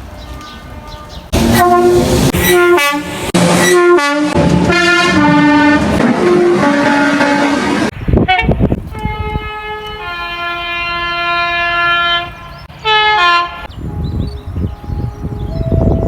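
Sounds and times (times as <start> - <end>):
train rumble: 0.0 - 16.0
train horn: 0.3 - 16.0.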